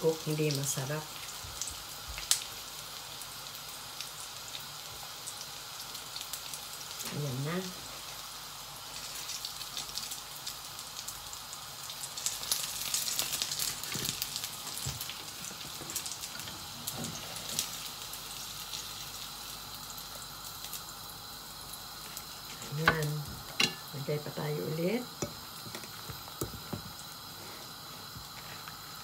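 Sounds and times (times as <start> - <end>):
oil sizzling and crackling: 0.0 - 29.0.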